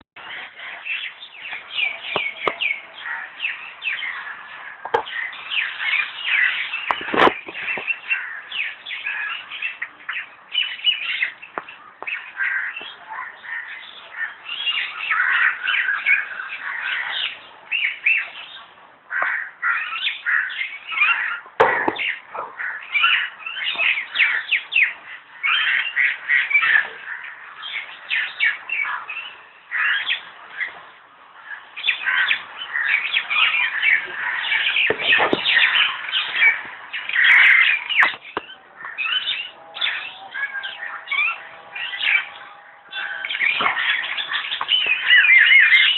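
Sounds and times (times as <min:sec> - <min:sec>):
birds chirping and squawking: 0:00.2 - 0:45.9.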